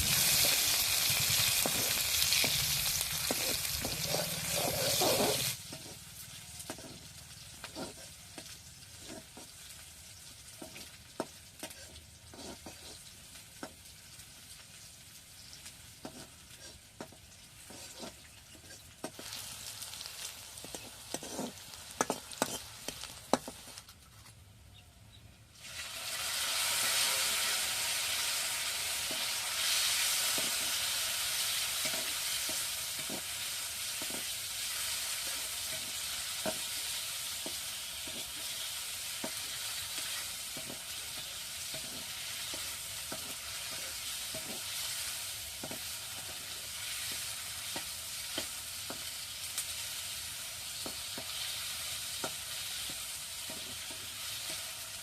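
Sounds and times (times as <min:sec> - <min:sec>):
hot oil sizzling in a pan: 0:00.0 - 0:23.8, 0:25.5 - 0:55.0.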